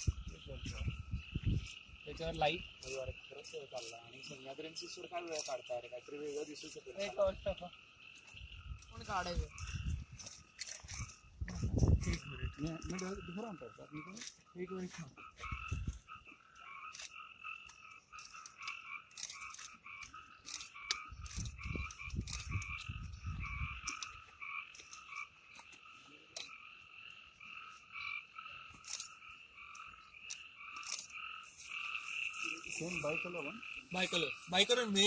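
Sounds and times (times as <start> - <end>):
frogs calling: 0.0 - 35.0.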